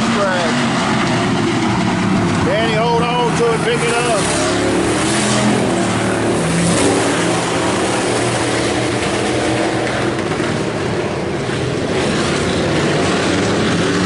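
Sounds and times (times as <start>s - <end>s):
race car engines droning: 0.0s - 14.0s.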